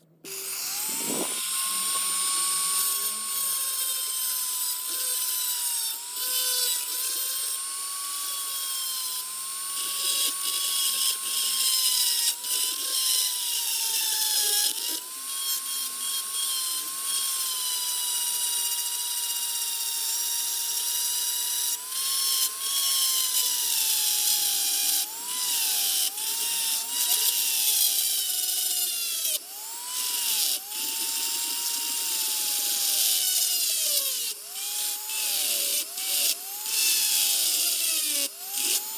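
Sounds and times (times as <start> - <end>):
electric power tool whining: 0.0 - 38.9.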